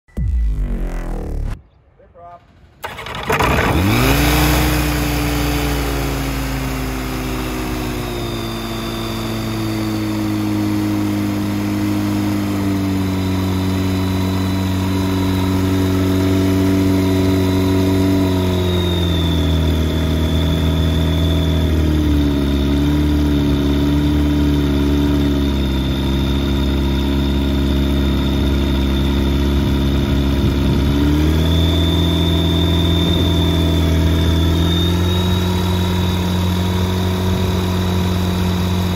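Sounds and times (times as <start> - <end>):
aircraft engine idling with propeller: 2.8 - 38.9.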